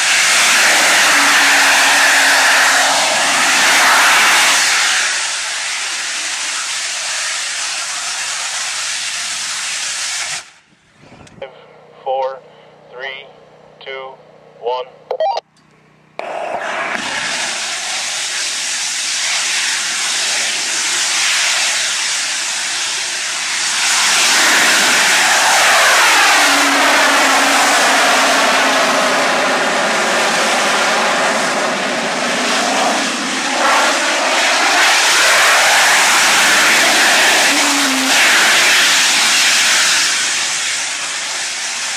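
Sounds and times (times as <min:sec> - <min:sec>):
rocket engine roaring: 0:00.0 - 0:15.1, 0:16.1 - 0:41.9.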